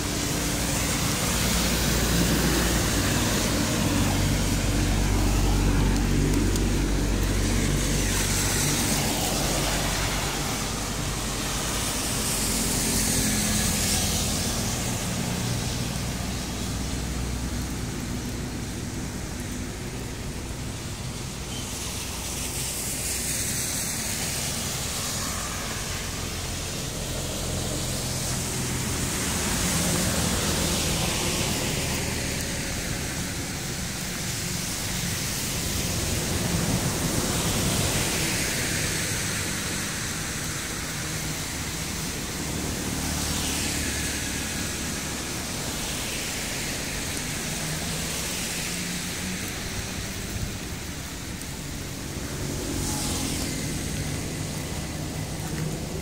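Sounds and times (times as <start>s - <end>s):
rain hiss: 0.0s - 56.0s
wind: 0.0s - 56.0s.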